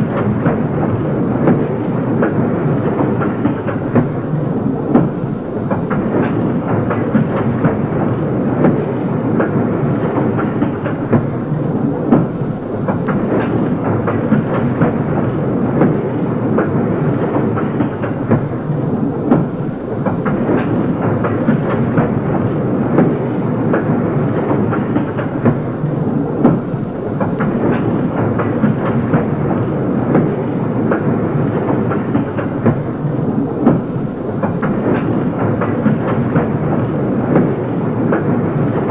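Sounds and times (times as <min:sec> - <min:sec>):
train rumbling on track: 0:00.0 - 0:38.9
wheels clacking on rails: 0:00.0 - 0:38.9.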